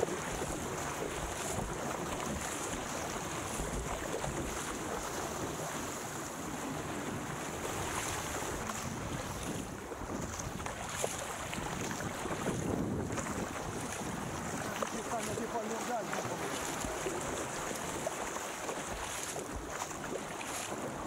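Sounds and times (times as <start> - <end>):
water splashing along hull: 0.0 - 21.0
wind on microphone: 0.0 - 21.0.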